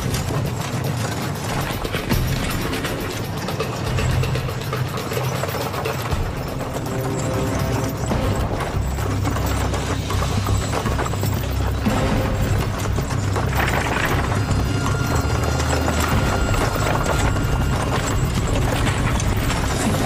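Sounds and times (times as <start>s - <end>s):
hooves clip-clopping fast: 0.0s - 20.0s.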